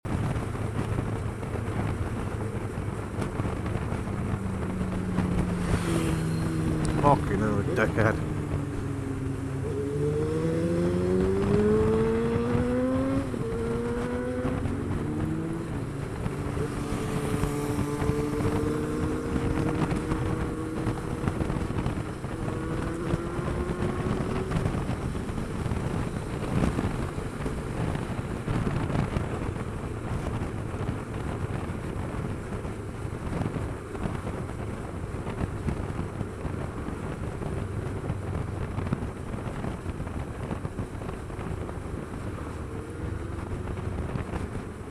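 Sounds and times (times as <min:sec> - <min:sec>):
motorcycle engine accelerating: 0:00.0 - 0:44.9
wind on microphone: 0:00.0 - 0:44.9.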